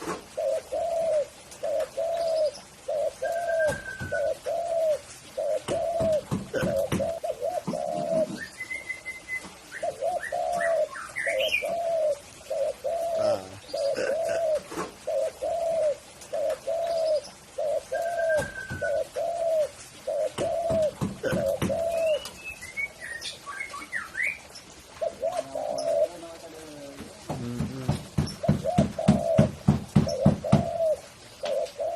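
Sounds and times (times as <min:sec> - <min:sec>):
dove cooing: 0:00.0 - 0:22.3, 0:23.8 - 0:31.9
small birds chirping: 0:00.0 - 0:31.9.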